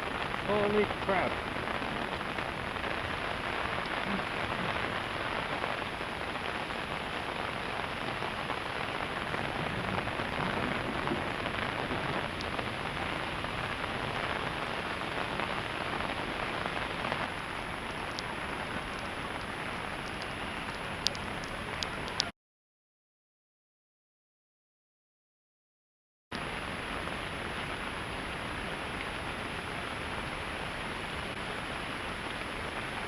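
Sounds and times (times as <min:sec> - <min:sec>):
heavy rain pouring: 0:00.0 - 0:22.3, 0:26.4 - 0:33.0.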